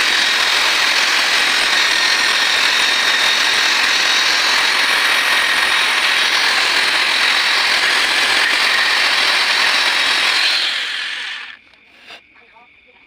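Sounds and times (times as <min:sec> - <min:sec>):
power tool hissing whine: 0:00.0 - 0:12.2.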